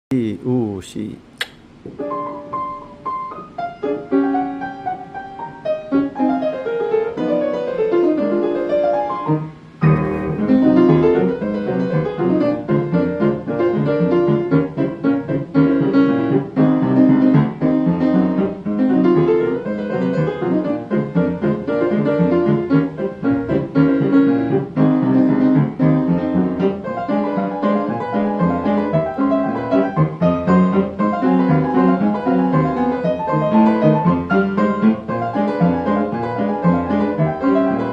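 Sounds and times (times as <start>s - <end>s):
solo piano: 1.8s - 37.9s.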